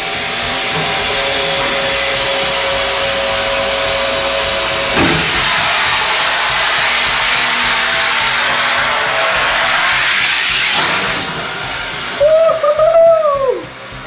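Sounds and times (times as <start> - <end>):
grinding machine running: 0.0 - 14.0
steady hum: 0.0 - 14.0
water spraying: 0.0 - 14.0.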